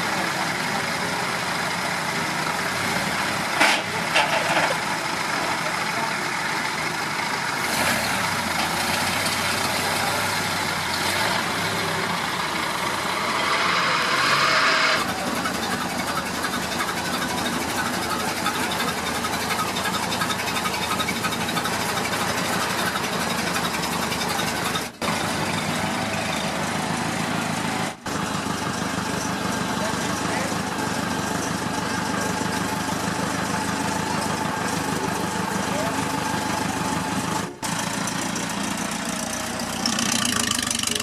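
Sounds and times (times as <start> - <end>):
car engine idling: 0.0 - 41.0
outdoor background noise: 0.0 - 41.0.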